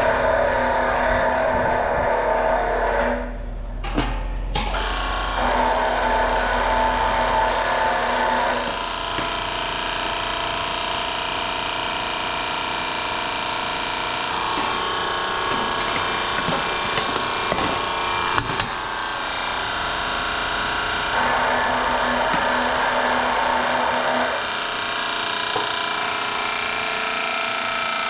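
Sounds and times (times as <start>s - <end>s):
power tool running: 4.6s - 28.0s.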